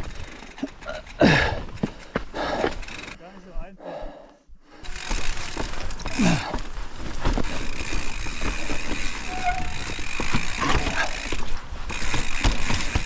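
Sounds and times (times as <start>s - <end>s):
bike rattling and knocking: 0.0s - 3.2s, 4.8s - 13.0s
bike tyres rumbling on rock: 0.0s - 3.2s, 4.8s - 13.0s.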